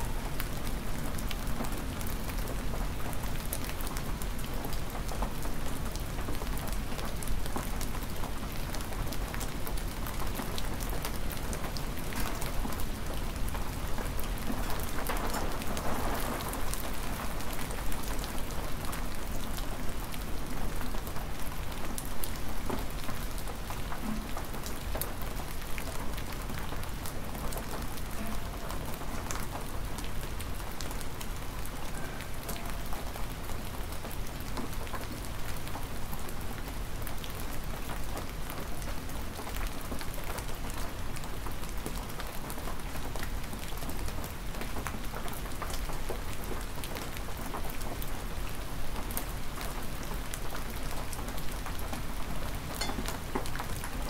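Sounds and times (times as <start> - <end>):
hard rain falling: 0.0 - 54.0.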